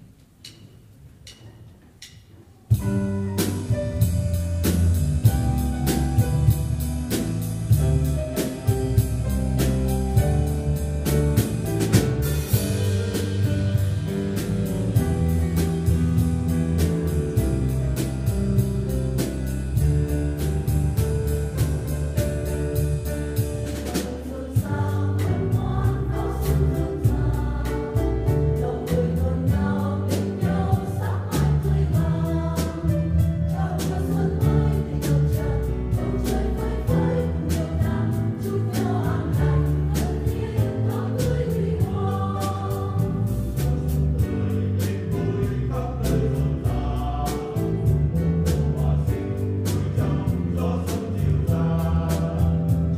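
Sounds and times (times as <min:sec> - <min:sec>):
drum kit beat: 0:02.6 - 0:52.9
choir singing a hymn: 0:03.4 - 0:52.9.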